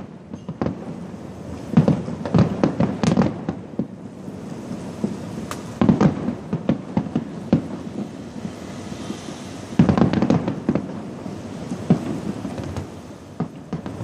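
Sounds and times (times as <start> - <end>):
distant explosions rumbling: 0.0 - 14.0
fireworks bangs and crackles: 0.0 - 14.0.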